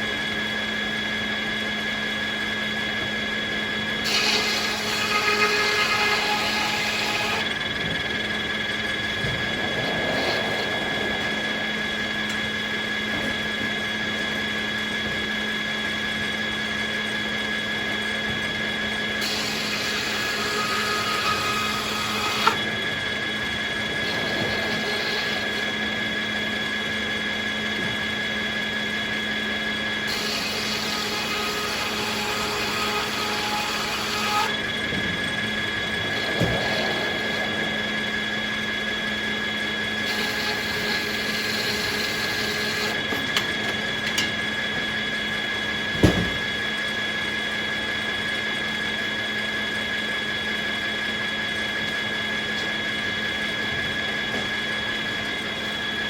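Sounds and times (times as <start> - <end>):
sawmill hum and whine: 0.0 - 56.0.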